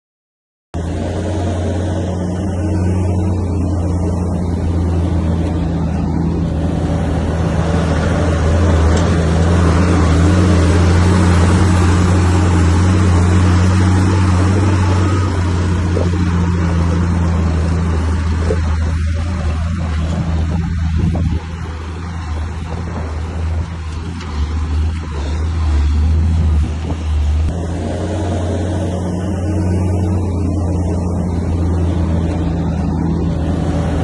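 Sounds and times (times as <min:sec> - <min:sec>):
heavy machinery diesel engine: 0:00.8 - 0:34.0.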